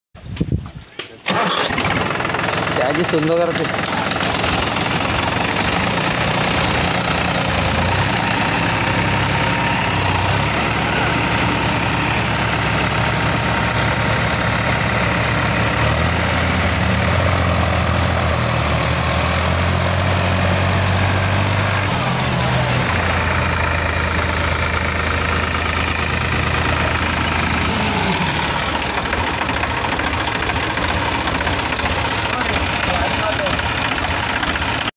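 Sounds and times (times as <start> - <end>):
tractor diesel engines under load: 0.2 - 34.9.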